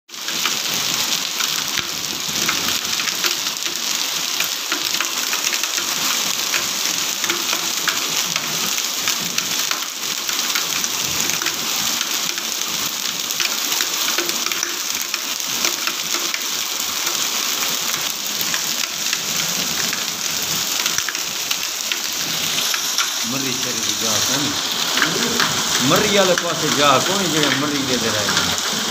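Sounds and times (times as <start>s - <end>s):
hailstones clicking: 0.1s - 28.9s
heavy rain hissing on concrete: 0.1s - 28.9s.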